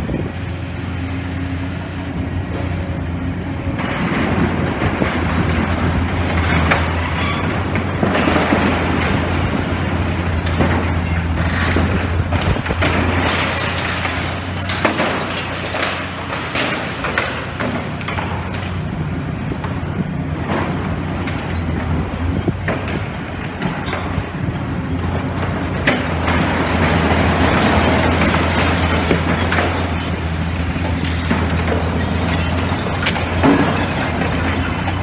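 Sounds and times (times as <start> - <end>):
diesel engine hum: 0.0 - 35.0
debris crunching and clattering: 3.4 - 35.0.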